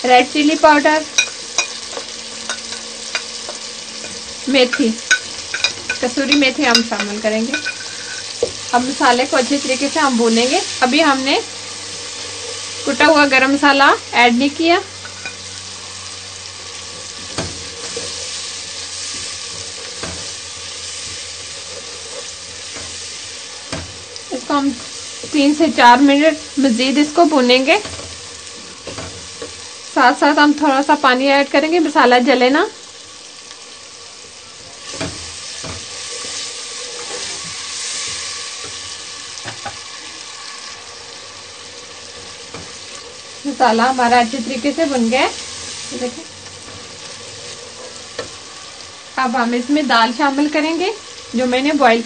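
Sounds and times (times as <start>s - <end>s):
masala sizzling in oil: 0.0s - 52.0s.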